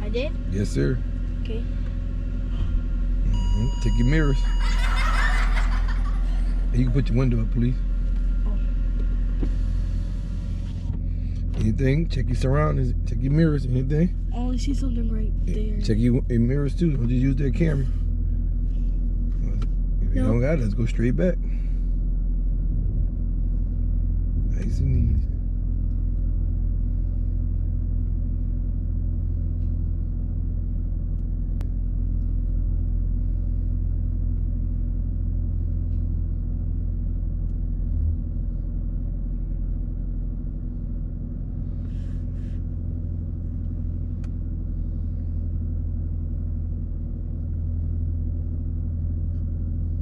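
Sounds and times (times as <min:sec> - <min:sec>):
car engine low rumble: 0:00.0 - 0:50.0.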